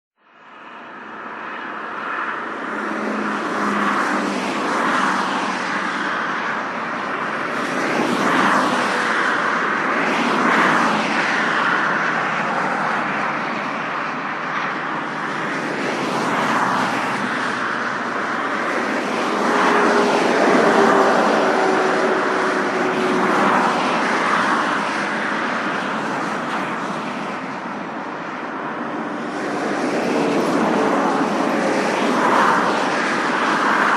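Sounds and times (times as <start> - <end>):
cars passing on highway: 0.2 - 33.9.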